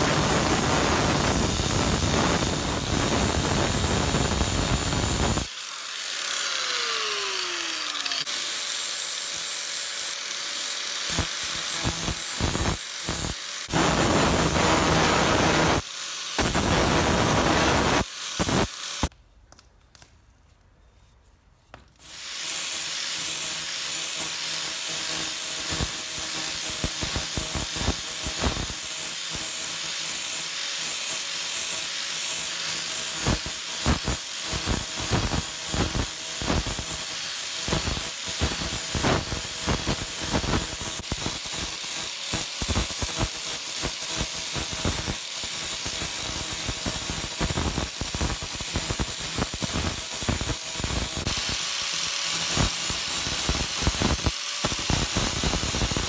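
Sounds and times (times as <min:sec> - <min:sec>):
angle grinder sanding wood: 0:00.0 - 0:19.1, 0:22.0 - 0:56.0.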